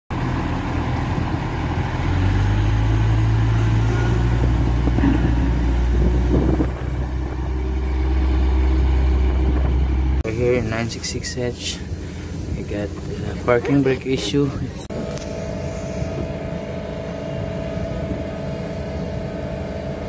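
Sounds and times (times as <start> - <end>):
wheel loader diesel engine: 0.1 - 20.0.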